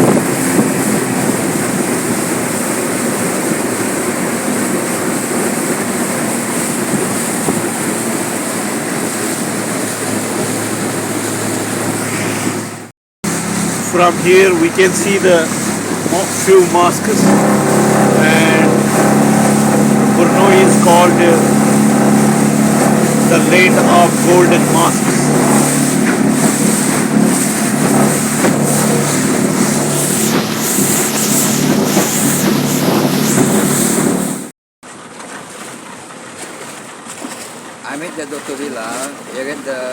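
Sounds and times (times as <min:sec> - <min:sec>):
wind rushing: 0:00.0 - 0:13.6, 0:15.2 - 0:34.4
boat engine running: 0:00.0 - 0:39.9
water rushing: 0:00.0 - 0:39.9.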